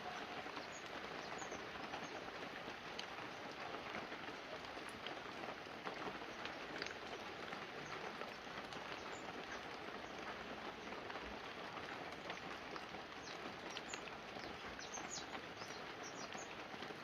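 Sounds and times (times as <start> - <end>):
light rain on leaves and roof: 0.0 - 17.0.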